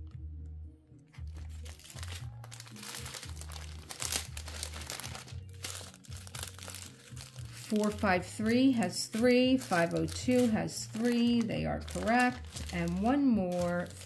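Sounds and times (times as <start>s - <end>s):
background music with bass line: 0.0s - 14.0s
plastic bags crinkling: 1.2s - 14.0s.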